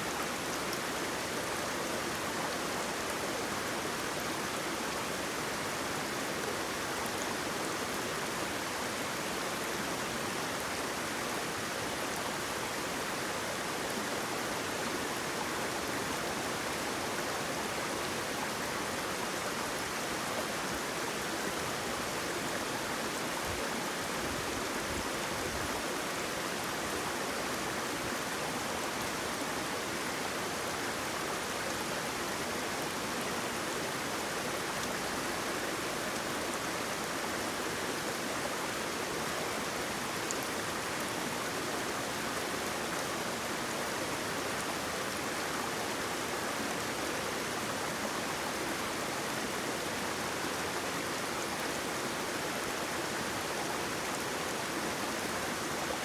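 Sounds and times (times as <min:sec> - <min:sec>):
flowing water rushing: 0:00.0 - 0:56.0.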